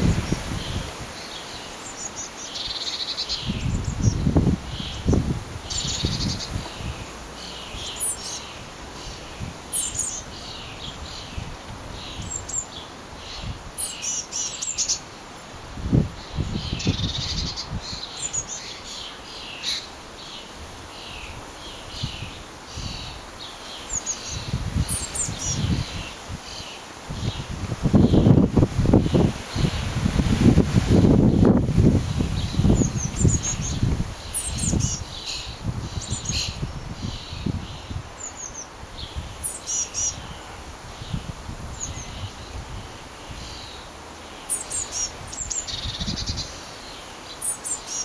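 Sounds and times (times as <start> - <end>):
wind rumbling on microphone: 0.0 - 14.0, 15.5 - 18.6, 20.6 - 23.3, 24.2 - 44.1, 44.7 - 46.7
birds chirping: 0.0 - 28.4, 31.0 - 48.0.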